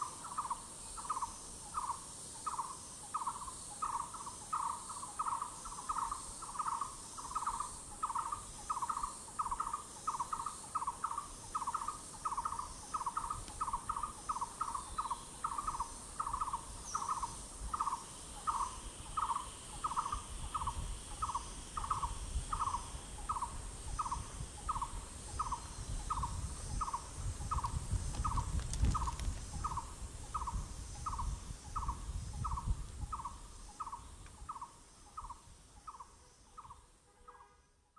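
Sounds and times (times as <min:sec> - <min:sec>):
high insect whine: 0:00.0 - 0:37.9.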